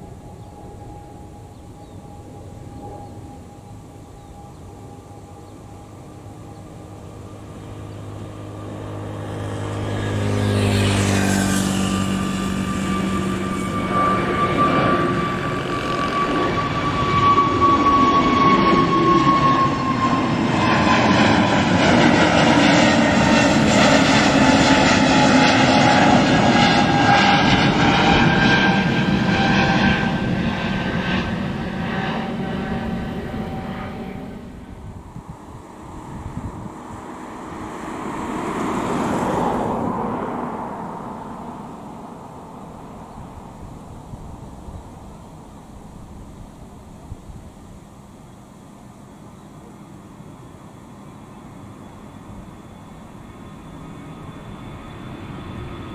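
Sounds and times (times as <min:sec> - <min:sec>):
high fan whine: 0:00.0 - 0:55.9
jet engines rumbling overhead: 0:00.0 - 0:55.9.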